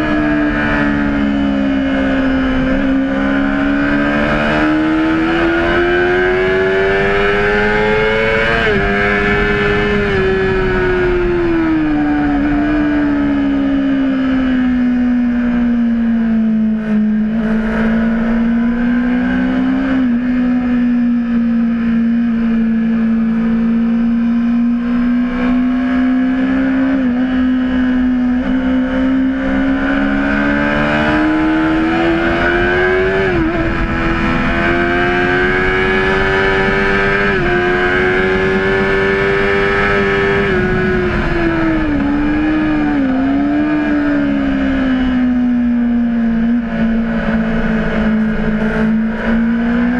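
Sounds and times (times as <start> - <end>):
motorcycle engine at high revs: 0.0 - 49.9.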